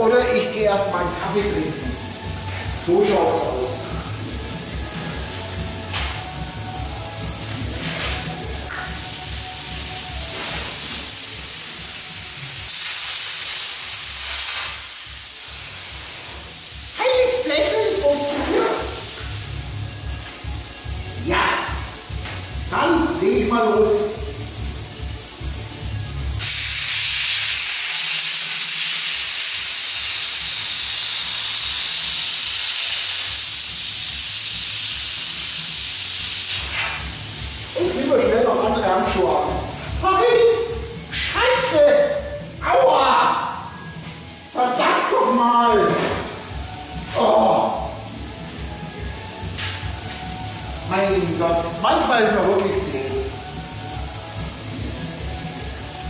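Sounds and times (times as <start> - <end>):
plasma cutter hissing: 0.0 - 56.0.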